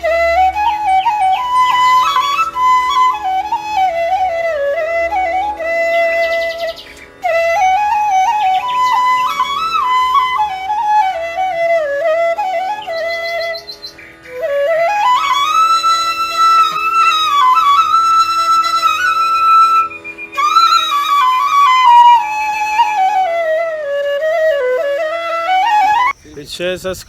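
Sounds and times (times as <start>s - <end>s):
solo flute melody: 0.0s - 26.2s.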